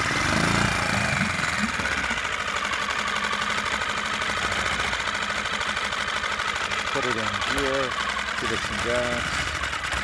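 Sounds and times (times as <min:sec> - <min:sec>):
outboard motor idling: 0:00.0 - 0:10.0.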